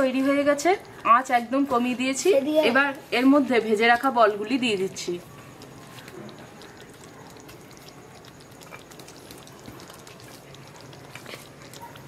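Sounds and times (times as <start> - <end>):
gravy bubbles popping: 0.0 - 2.1, 4.0 - 12.0
soft plops into gravy: 0.0 - 12.0.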